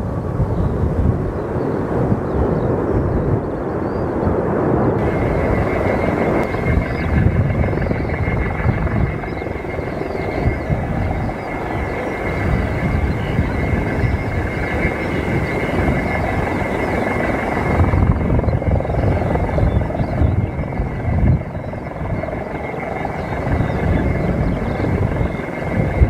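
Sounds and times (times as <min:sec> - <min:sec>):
aircraft engine rumble: 0:00.0 - 0:26.0
wind buffeting microphone: 0:00.0 - 0:26.0
thin steady whine: 0:04.9 - 0:26.0.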